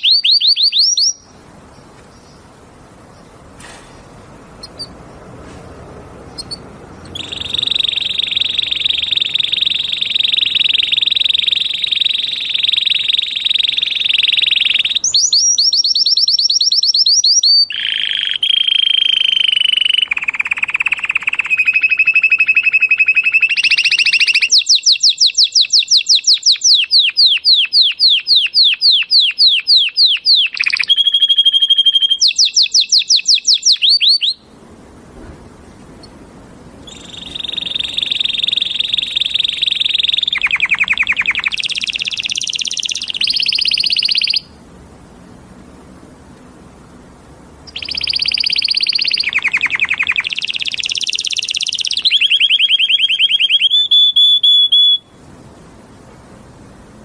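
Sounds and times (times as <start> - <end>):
canary singing trills: 0.0 - 34.6, 35.9 - 44.6, 47.3 - 55.2.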